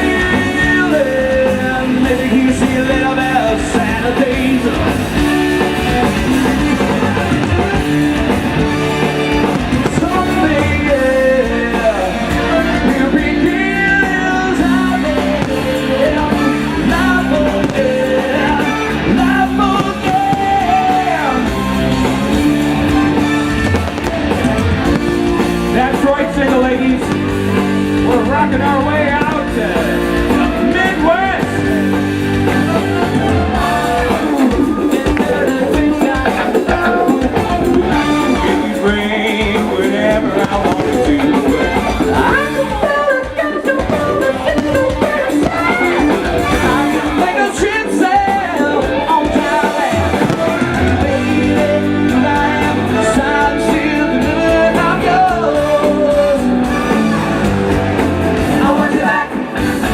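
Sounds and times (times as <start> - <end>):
lead singer singing: 0.0 - 57.7, 58.3 - 59.9
electric guitar: 0.0 - 59.9
live rock band playing: 0.0 - 59.9
steady bass line: 0.0 - 59.9.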